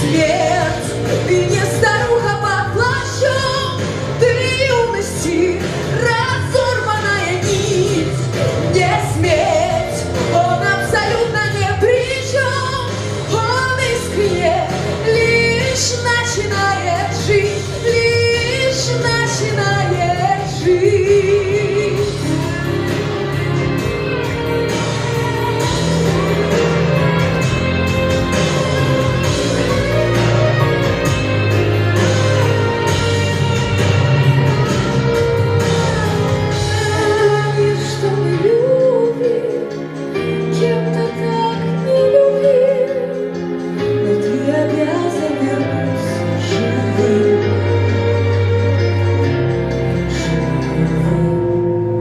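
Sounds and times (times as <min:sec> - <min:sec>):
woman singing with vibrato: 0:00.0 - 0:49.0, 0:49.9 - 0:52.0
instrumental accompaniment with bass: 0:00.0 - 0:52.0.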